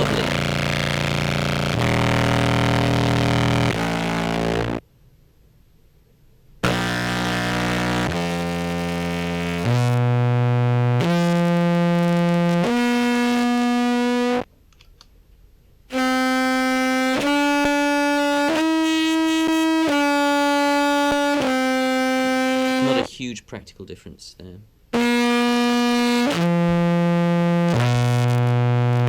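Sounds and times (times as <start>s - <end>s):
sustained synth notes through effects: 0.0s - 4.8s, 6.6s - 14.4s, 15.9s - 23.1s, 25.0s - 29.0s.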